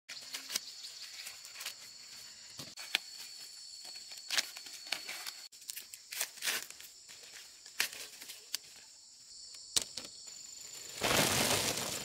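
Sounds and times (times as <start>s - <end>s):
corn husks crackling and rustling: 0.1s - 9.0s, 9.8s - 12.0s
high insect drone: 0.2s - 12.0s.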